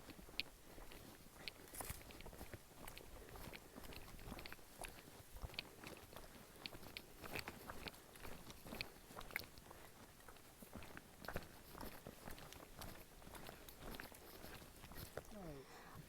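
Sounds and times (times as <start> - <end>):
footsteps crunching on trail: 0.0 - 15.3.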